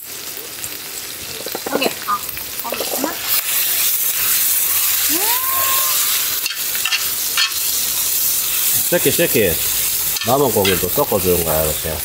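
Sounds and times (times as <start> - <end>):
meat frying in oil sizzling: 0.0 - 12.0.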